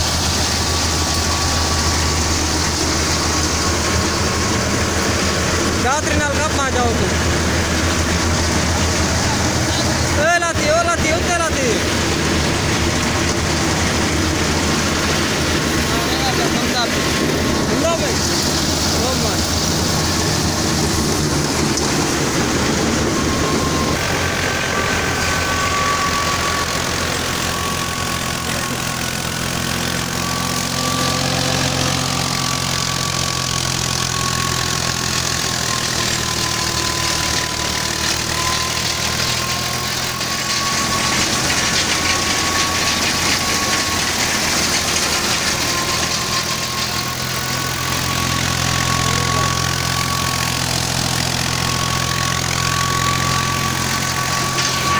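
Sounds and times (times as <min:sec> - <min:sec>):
thresher high whine: 0:00.0 - 0:54.9
tractor diesel engine droning: 0:00.0 - 0:54.9.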